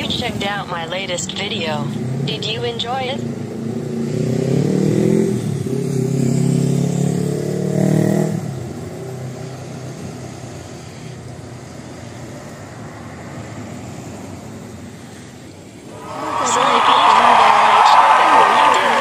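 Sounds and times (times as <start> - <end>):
low hum of street traffic: 0.0 - 19.0.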